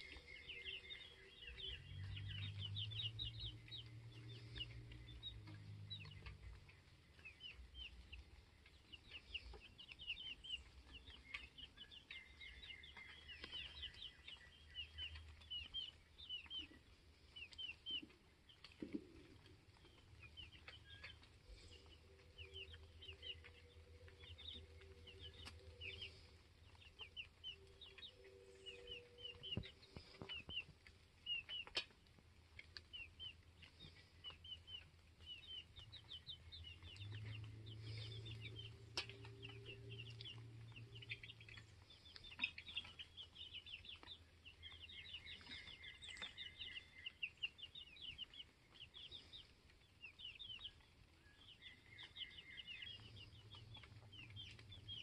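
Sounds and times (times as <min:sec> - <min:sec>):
chicks chirping: 0:00.0 - 0:55.0.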